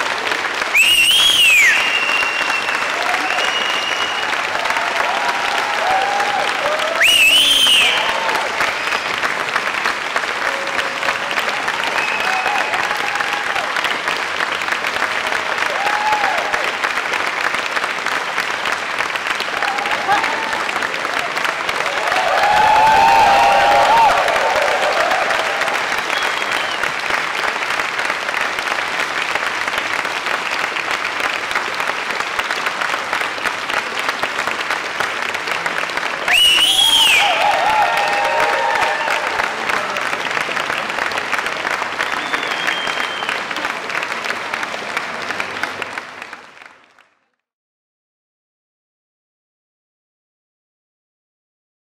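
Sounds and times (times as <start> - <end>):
audience applauding: 0.0 - 47.4.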